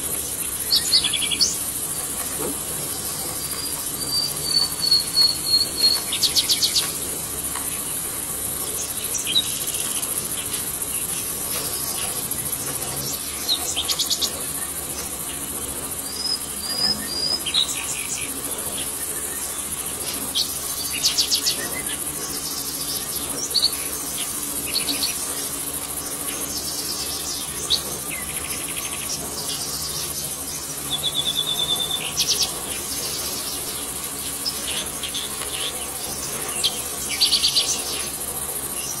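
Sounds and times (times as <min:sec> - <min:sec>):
birds trilling and whistling: 0:00.0 - 0:39.0
insects droning: 0:00.0 - 0:39.0.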